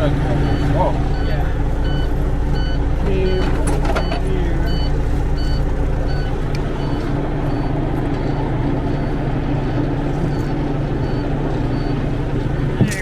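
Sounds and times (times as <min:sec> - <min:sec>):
truck diesel engine idling: 0:00.0 - 0:13.0
faint electronic warning beep: 0:00.4 - 0:12.0.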